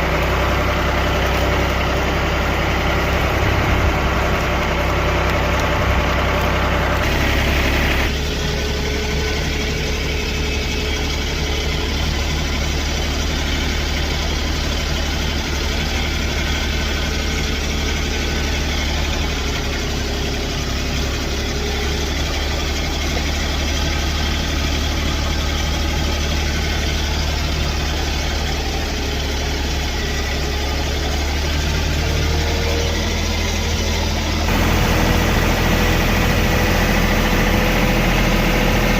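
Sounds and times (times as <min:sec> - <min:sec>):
engine running at low speed: 0:00.0 - 0:38.9.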